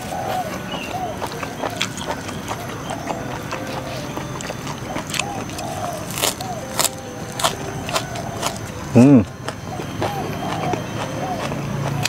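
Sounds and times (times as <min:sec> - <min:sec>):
wet chewing of raw leaves: 0:00.0 - 0:12.0.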